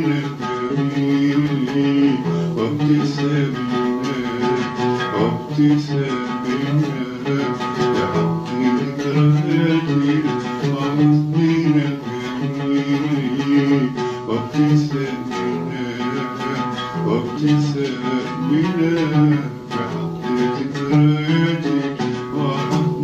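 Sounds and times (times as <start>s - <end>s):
oud playing a melody: 0.0s - 23.0s.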